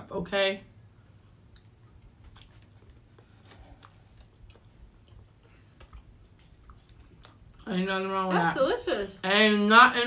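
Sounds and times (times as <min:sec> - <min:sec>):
low room hum: 0:00.0 - 0:10.0
faint chewing and mouth clicks: 0:01.1 - 0:09.3.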